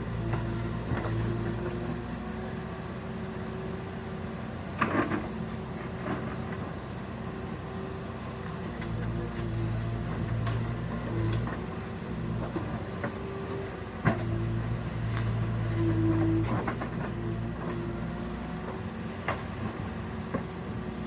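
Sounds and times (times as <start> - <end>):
construction machine diesel engine: 0.0 - 21.0.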